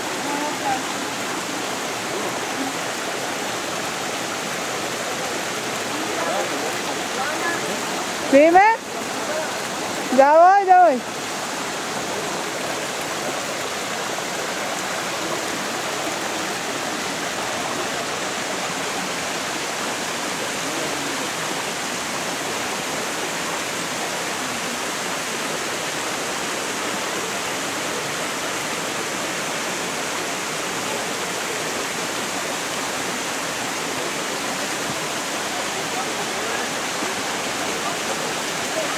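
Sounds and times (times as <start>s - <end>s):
stream tumbling over rocks: 0.0s - 38.9s.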